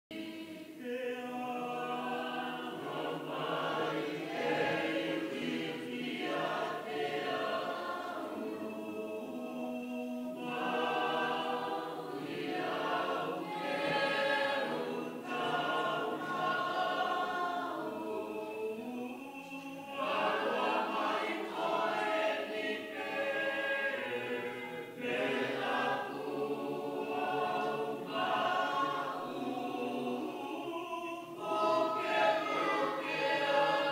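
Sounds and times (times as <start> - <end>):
choir singing a hymn: 0.1 - 33.9.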